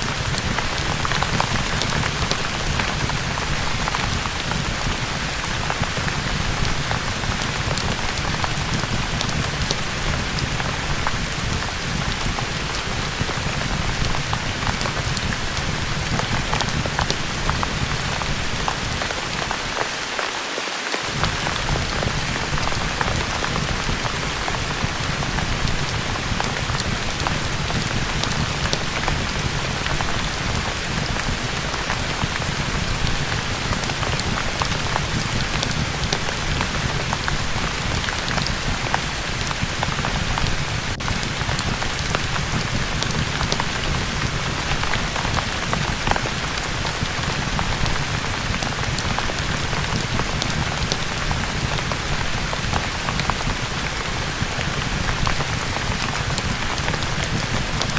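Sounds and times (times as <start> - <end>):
sharp raindrop ticks: 0.0 - 20.0, 21.1 - 57.9
rain hissing: 0.0 - 57.9.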